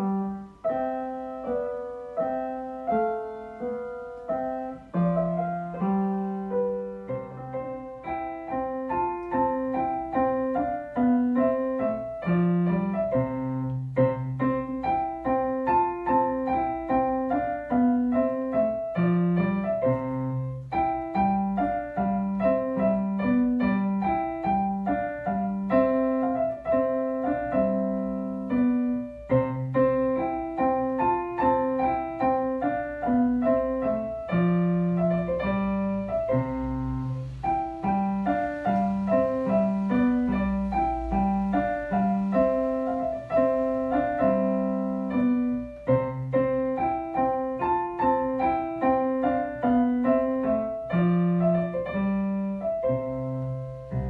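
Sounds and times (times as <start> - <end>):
digital piano classical piece: 0.0 - 54.0.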